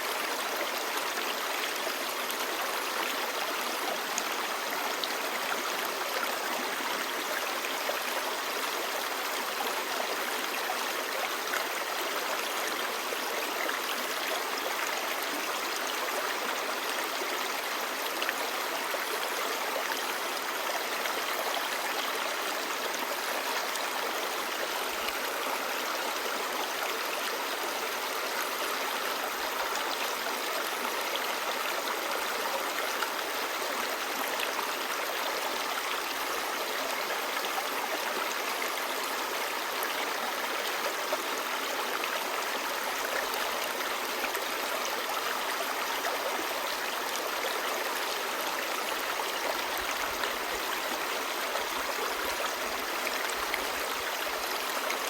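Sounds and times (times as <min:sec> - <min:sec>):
river babbling: 0:00.0 - 0:55.0.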